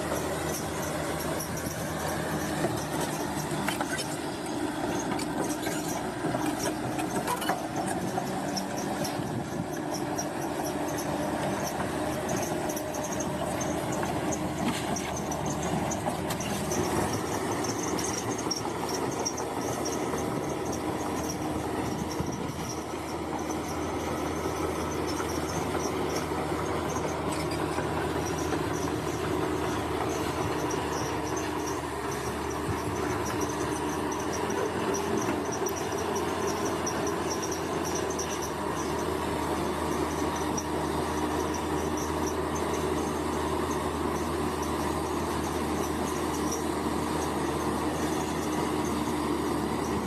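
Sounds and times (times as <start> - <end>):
bulldozer diesel engine running: 0.0 - 50.0
steel tracks squeaking: 0.0 - 50.0.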